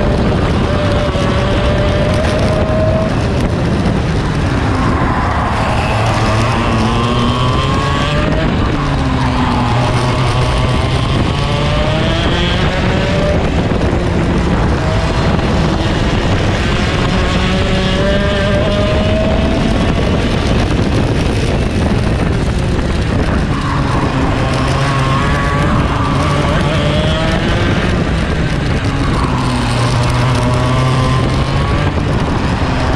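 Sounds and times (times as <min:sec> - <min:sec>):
kart engine at full throttle: 0:00.0 - 0:32.9
wind rushing: 0:00.0 - 0:32.9.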